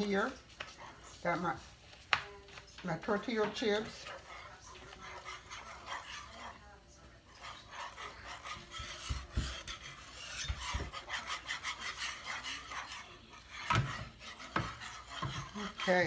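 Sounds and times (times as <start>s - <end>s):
whisk knocking against pan: 0.0s - 6.7s, 7.3s - 16.0s
whisk scraping saucepan: 0.0s - 16.0s.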